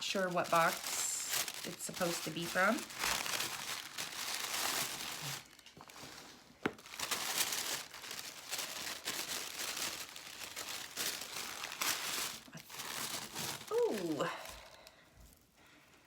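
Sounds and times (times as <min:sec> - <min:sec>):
tissue paper rustling: 0:00.0 - 0:15.4.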